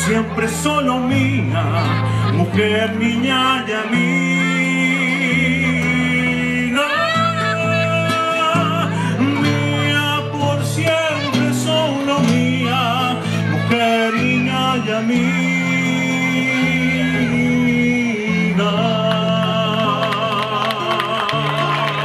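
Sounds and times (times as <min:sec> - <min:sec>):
acoustic guitar: 0:00.0 - 0:22.0
bass notes: 0:00.0 - 0:22.0
man singing: 0:00.0 - 0:22.0.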